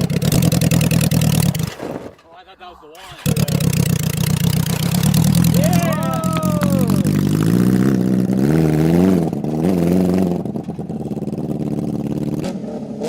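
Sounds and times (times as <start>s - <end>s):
lawnmower engine revving: 0.0s - 2.2s, 2.8s - 13.0s.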